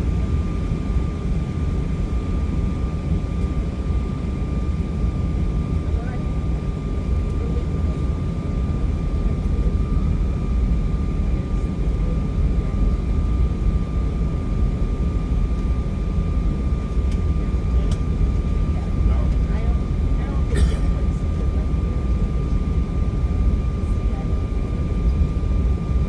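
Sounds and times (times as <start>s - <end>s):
jet cabin rumble: 0.0s - 26.0s
jet engine whine: 0.0s - 26.0s.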